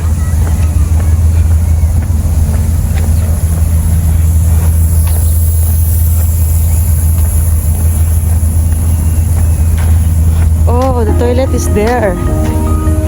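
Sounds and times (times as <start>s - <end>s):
air-conditioning blowers droning: 0.0s - 13.0s.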